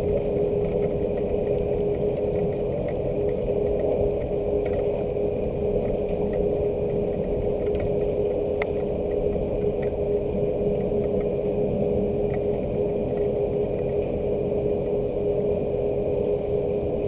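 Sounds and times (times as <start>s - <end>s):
low machine hum: 0.0s - 17.0s
rain drips: 0.0s - 17.0s.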